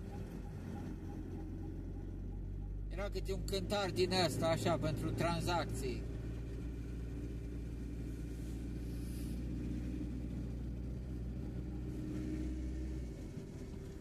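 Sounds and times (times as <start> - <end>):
van engine and road noise: 0.0 - 14.0.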